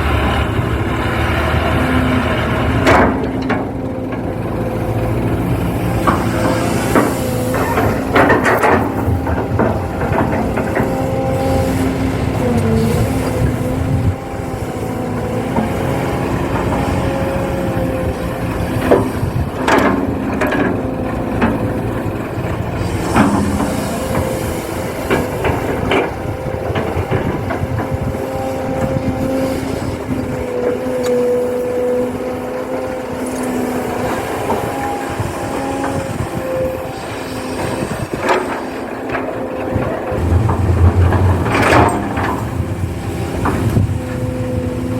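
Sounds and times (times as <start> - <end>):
electric motors whining: 0.0 - 44.9.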